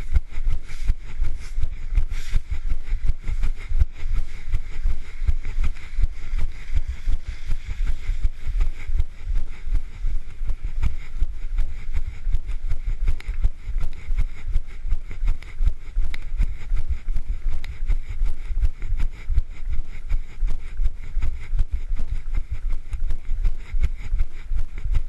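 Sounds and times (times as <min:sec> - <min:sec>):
running footsteps on pavement: 0:00.0 - 0:25.0.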